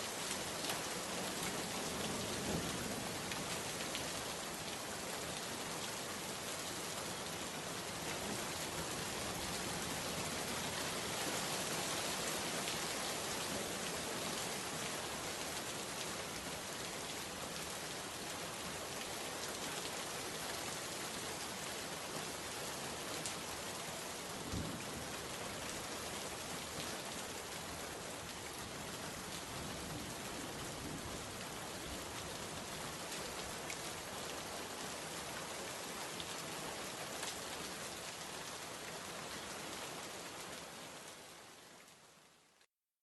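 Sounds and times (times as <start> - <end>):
rain pattering on a surface: 0.0 - 42.7.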